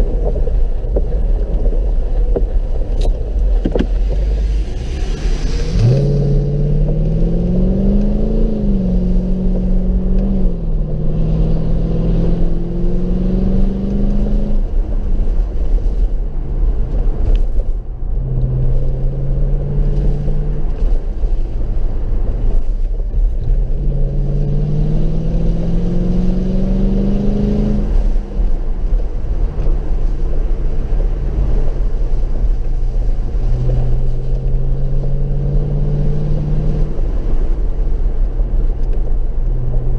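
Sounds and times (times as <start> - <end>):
car engine accelerating: 0.0 - 39.9
road rumble: 0.0 - 39.9.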